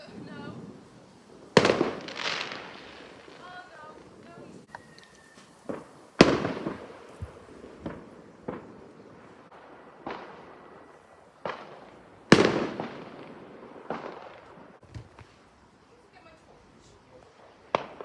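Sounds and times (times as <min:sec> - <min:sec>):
fireworks exploding: 0:00.0 - 0:18.0.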